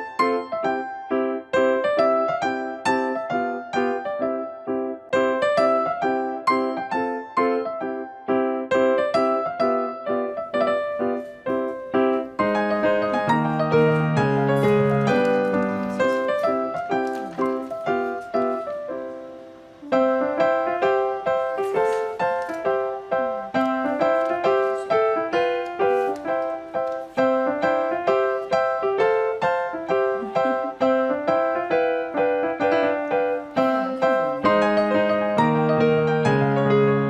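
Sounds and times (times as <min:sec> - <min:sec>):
bouncy piano tune with beat: 0:00.0 - 0:37.0.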